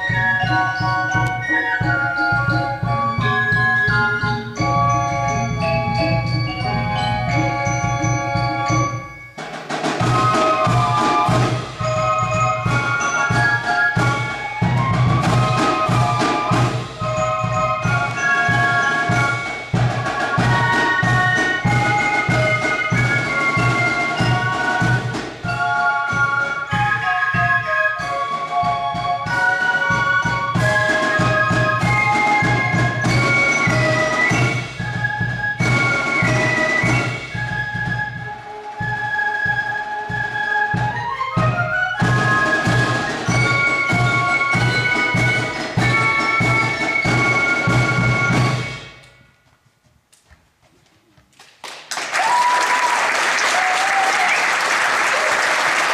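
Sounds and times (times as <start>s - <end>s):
steady drum beat: 0.0s - 27.7s, 28.3s - 38.5s, 40.7s - 49.0s
flutes playing melody: 0.0s - 49.3s.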